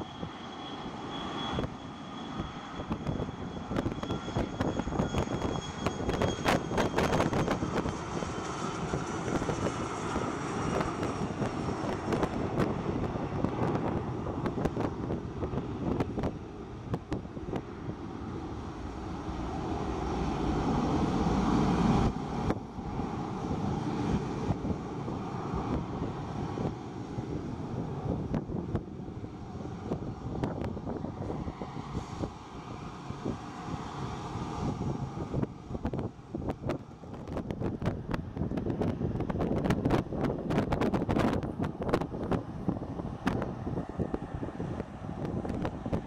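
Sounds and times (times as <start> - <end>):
jet engines at takeoff: 0.0 - 46.0
wind buffeting microphone: 0.0 - 46.0.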